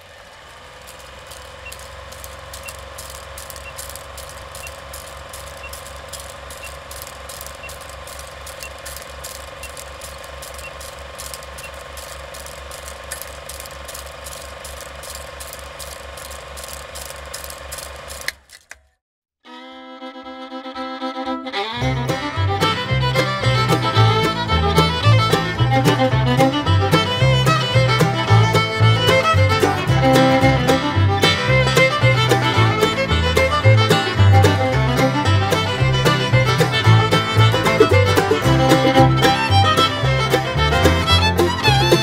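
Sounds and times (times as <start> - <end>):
film projector clatter: 0.0 - 18.8, 22.6 - 42.0
projector motor hum: 0.0 - 18.8, 21.8 - 42.0.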